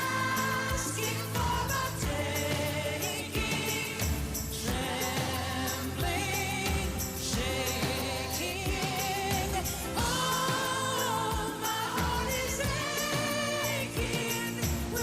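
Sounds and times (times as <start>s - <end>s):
pop song with vocals: 0.0s - 15.0s.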